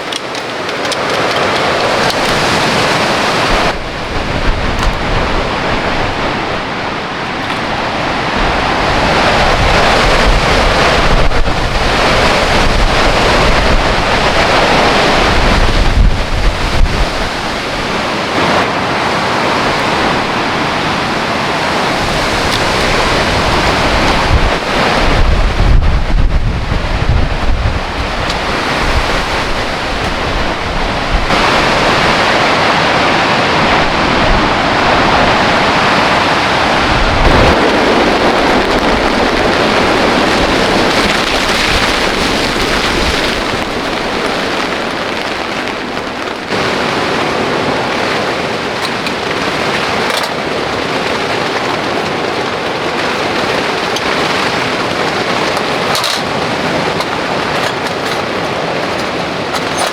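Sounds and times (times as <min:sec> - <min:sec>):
heavy rain: 0:00.0 - 0:59.9
strong gusting wind: 0:00.0 - 0:59.9
wind buffeting microphone: 0:00.0 - 0:59.9.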